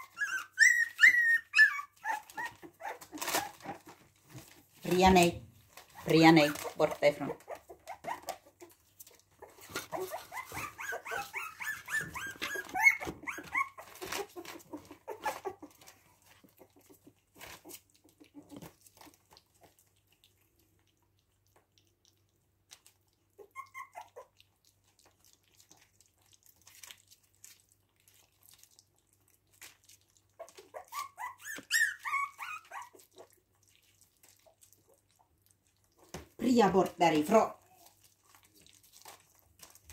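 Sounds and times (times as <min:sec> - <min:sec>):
puppies whining and squeaking: 0:00.0 - 0:20.4, 0:22.2 - 0:39.9
puppies lapping food: 0:00.0 - 0:39.9.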